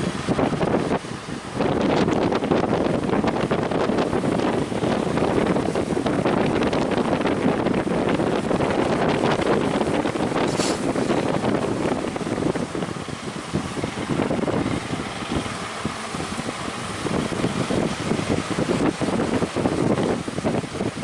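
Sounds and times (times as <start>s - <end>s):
breaking surf: 0.0s - 21.0s
wind buffeting microphone: 0.0s - 21.0s.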